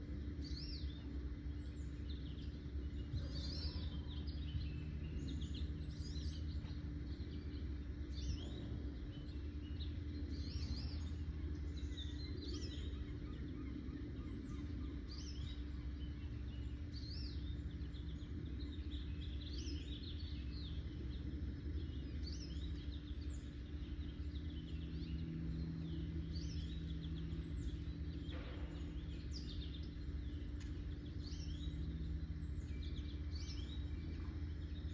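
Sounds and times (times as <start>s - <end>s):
birds chirping: 0.0s - 34.9s
low background hum: 0.0s - 34.9s.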